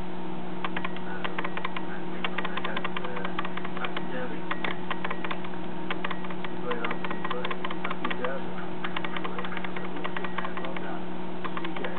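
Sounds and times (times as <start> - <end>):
camera electrical hum: 0.0 - 11.9
playing cards clicking: 0.6 - 11.9.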